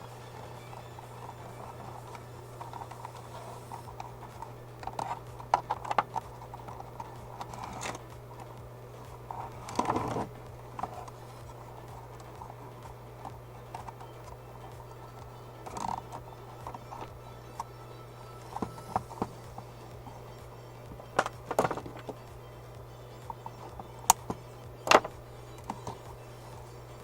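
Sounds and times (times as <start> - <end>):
low electrical hum: 0.0 - 27.0
wires scraping: 0.0 - 27.0.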